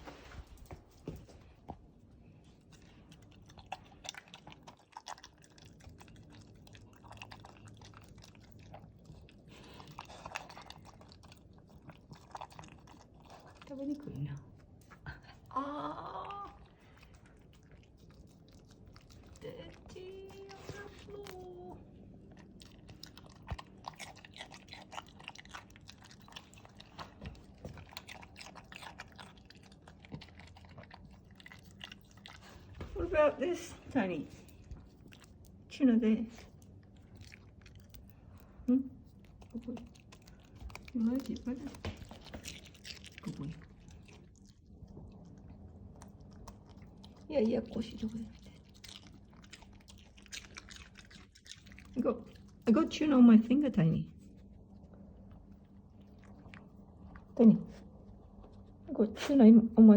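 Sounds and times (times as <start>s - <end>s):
dog chewing food: 0.0s - 59.8s.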